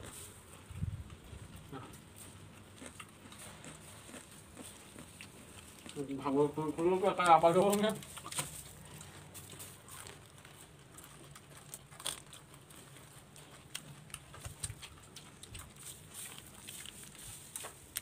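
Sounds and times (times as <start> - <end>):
people eating crunchy puffed rice: 0.0 - 18.0.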